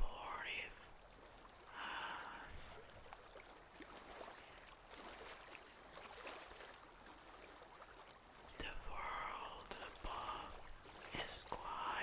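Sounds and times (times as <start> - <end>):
trickling water ambient track: 0.0 - 12.0.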